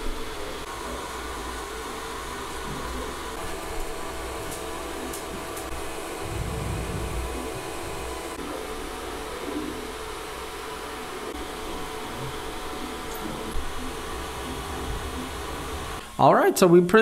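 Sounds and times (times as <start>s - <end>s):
printer cooling fans whirring: 0.0s - 17.0s.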